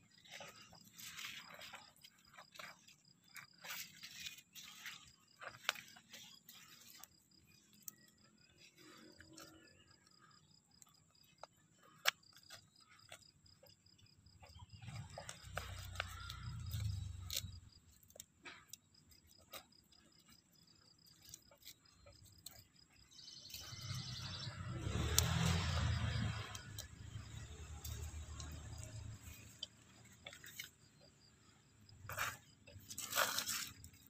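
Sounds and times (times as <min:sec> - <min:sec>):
hands digging in gravelly soil: 0:00.0 - 0:10.3, 0:14.4 - 0:34.0
cricket chirping: 0:00.0 - 0:34.0.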